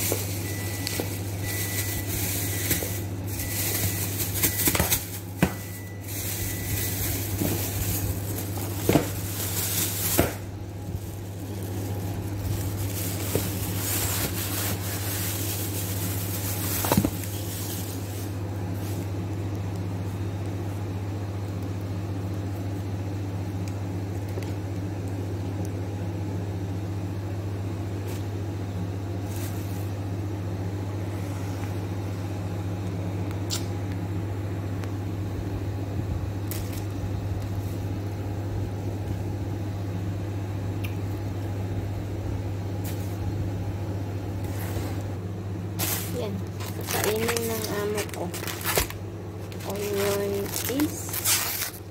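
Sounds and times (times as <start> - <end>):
low machine hum: 0.0 - 51.9.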